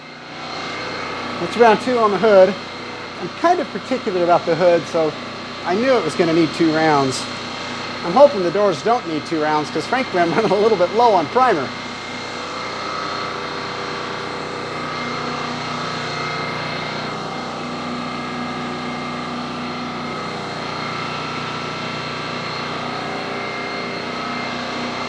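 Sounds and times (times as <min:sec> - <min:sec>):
air compressor motor hum: 0:00.0 - 0:25.0.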